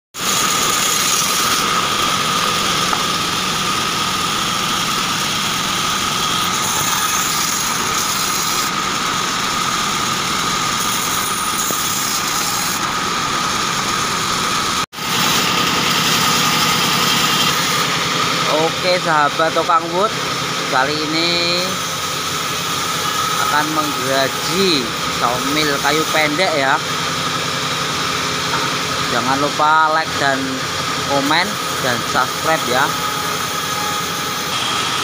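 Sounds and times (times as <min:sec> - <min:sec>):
band saw cutting wood: 0:00.2 - 0:35.0.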